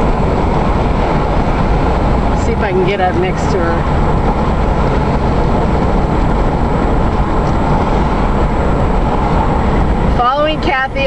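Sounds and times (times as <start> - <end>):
vehicle wind and road noise: 0.0 - 11.0
wind buffeting on microphone: 0.0 - 11.0.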